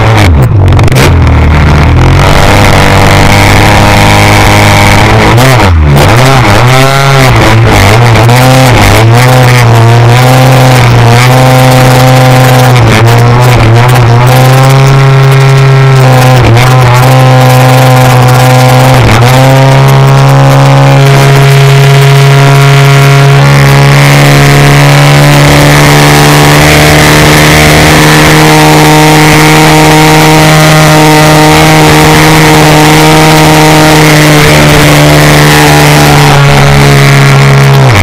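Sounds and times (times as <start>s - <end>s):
model plane engine at high throttle: 2.2s - 38.0s.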